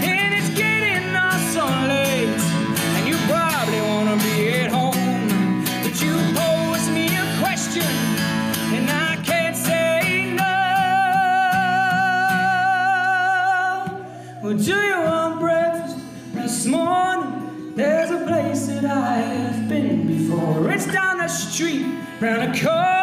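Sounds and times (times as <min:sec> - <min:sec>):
acoustic guitar chords: 0:00.0 - 0:23.0
man singing: 0:00.0 - 0:23.0.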